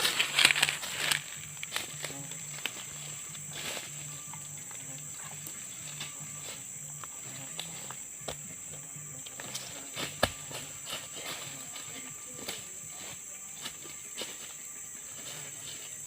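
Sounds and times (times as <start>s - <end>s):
low pulsing hum: 0.0s - 14.1s
insects chirring: 0.0s - 16.0s.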